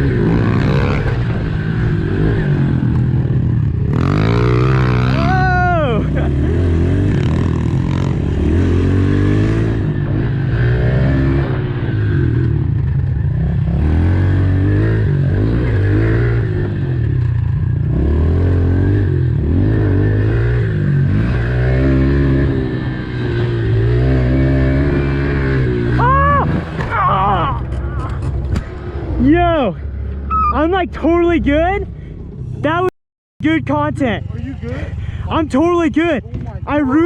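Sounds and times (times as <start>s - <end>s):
dirt bike engine revving: 0.0s - 31.7s.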